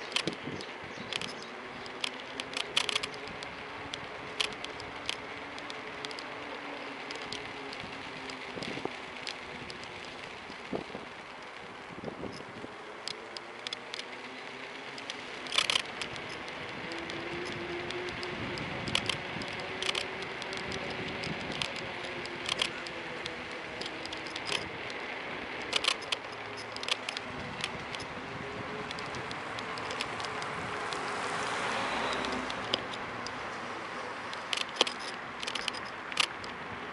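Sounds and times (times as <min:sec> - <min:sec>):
phone holder creaking and clicking: 0:00.0 - 0:14.2, 0:14.9 - 0:28.2, 0:28.8 - 0:36.6
road and wind noise: 0:00.0 - 0:36.9.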